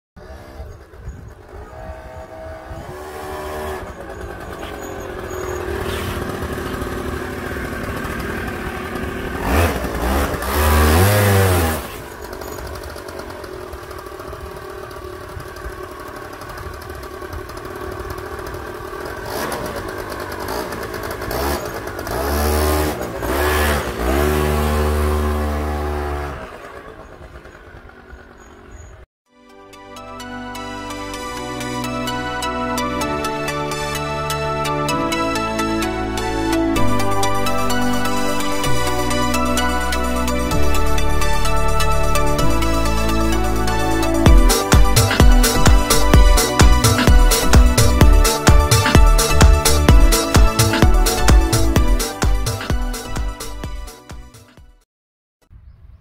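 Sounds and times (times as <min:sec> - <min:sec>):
motorcycle engine revving: 0:00.2 - 0:29.1, 0:31.8 - 0:54.0.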